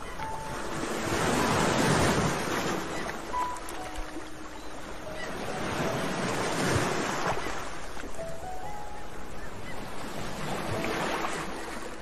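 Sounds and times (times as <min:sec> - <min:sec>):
sea waves washing in: 0:00.0 - 0:12.0.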